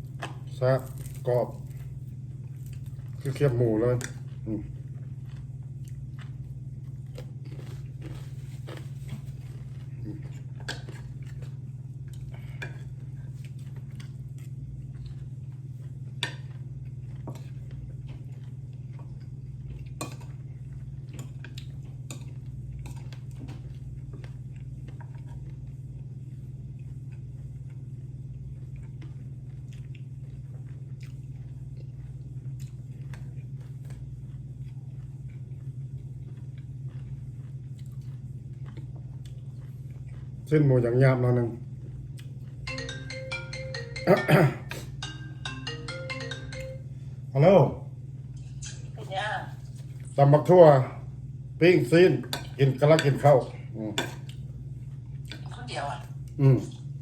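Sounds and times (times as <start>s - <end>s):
chewing and crunching: 0.0s - 42.7s, 48.2s - 57.0s
steady low hum: 0.0s - 57.0s.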